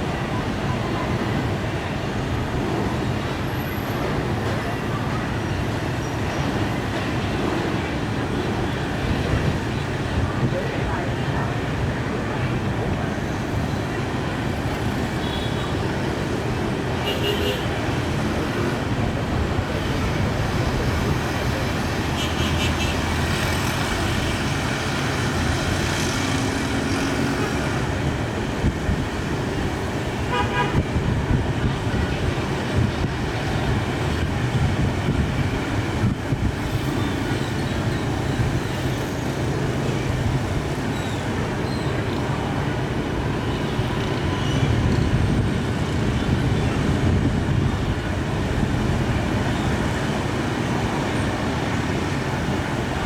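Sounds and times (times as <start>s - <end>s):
road traffic noise: 0.0s - 53.0s.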